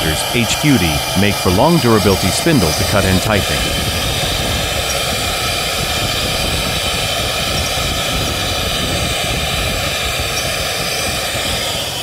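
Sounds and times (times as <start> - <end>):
spindle motor whine: 0.0 - 12.0.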